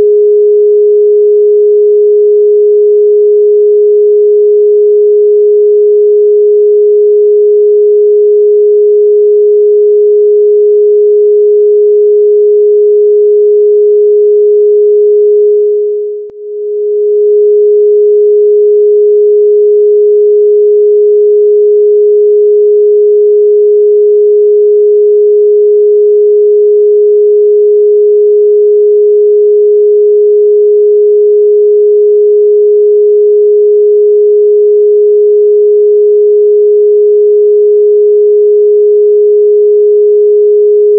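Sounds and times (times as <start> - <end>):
steady sine-wave tone: 0.0 - 40.9.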